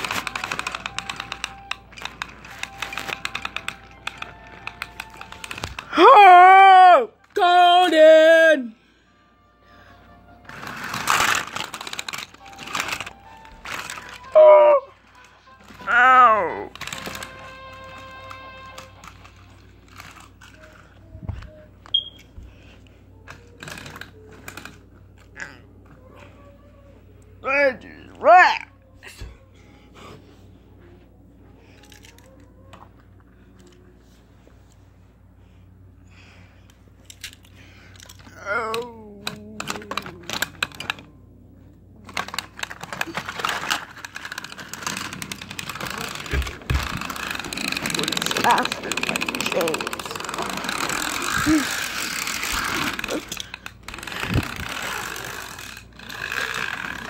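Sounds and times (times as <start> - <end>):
toy handling clicks and rustles: 0.0 - 6.3, 10.3 - 26.4, 31.4 - 57.0.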